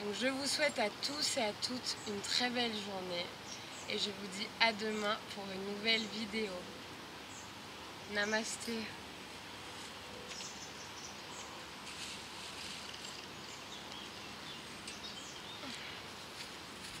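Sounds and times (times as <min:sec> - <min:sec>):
small birds chirping: 0:00.0 - 0:17.0
steady outdoor background hiss: 0:00.0 - 0:17.0.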